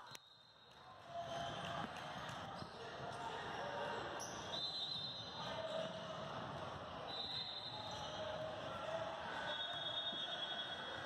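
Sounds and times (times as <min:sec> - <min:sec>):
crowd noise hum: 0:01.0 - 0:11.0.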